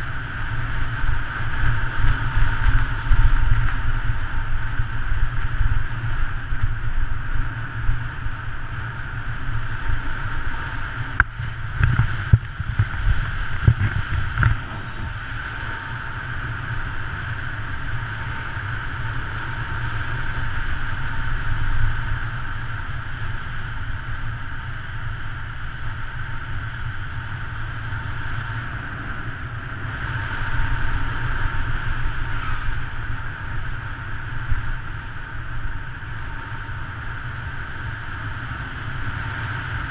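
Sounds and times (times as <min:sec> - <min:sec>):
tyre noise on asphalt: 0:00.0 - 0:39.9
wind rushing over microphone: 0:00.0 - 0:39.9.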